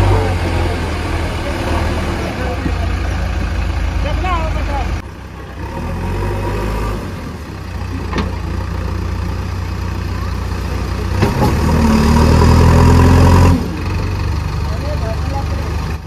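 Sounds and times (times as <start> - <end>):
heavy diesel engine revving: 0.0 - 16.0.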